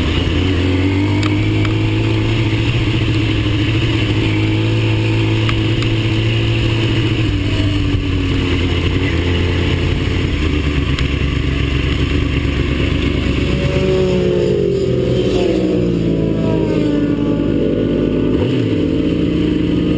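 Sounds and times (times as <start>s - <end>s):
race car engine: 0.0s - 19.9s.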